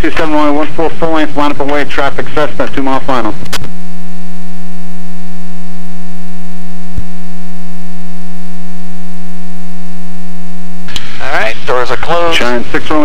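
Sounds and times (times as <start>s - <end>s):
electrical hum on radio feed: 0.0s - 13.0s.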